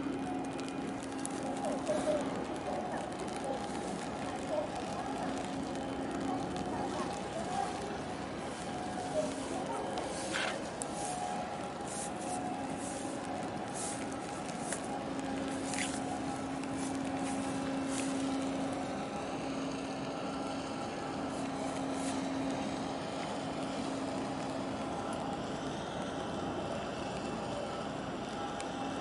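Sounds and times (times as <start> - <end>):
rushing background noise: 0.0 - 27.2
ship engine drone: 0.0 - 29.0.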